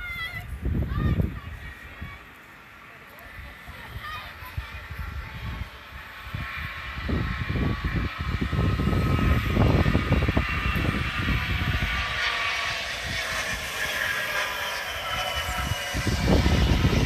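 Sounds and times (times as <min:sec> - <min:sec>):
wind buffeting microphone: 0:00.0 - 0:02.3, 0:03.3 - 0:17.0
steady outdoor hiss: 0:00.0 - 0:17.0.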